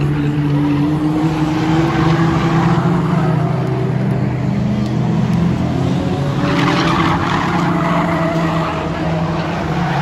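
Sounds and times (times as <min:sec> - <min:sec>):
race car engines running: 0:00.0 - 0:10.0
tyres skidding: 0:00.0 - 0:10.0.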